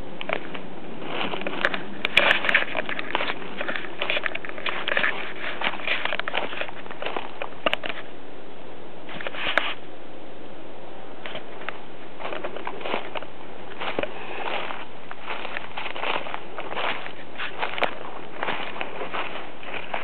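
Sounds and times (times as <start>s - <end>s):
steady hiss: 0.0s - 20.0s
footsteps crunching through dry leaves: 0.2s - 8.1s, 9.1s - 9.8s, 11.2s - 20.0s.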